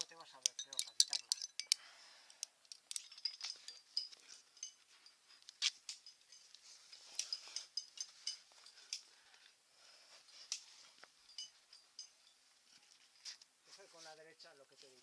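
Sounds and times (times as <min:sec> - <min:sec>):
metal carabiners clinking: 0:00.0 - 0:09.4, 0:10.3 - 0:13.2.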